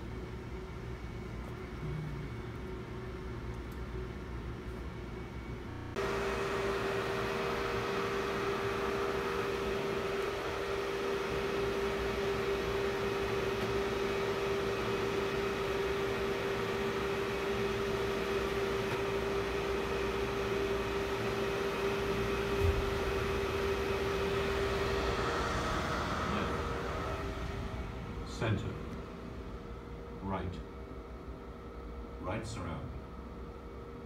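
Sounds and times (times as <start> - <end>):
cooling fans whirring: 0.0 - 34.0
steady hum: 0.0 - 34.0.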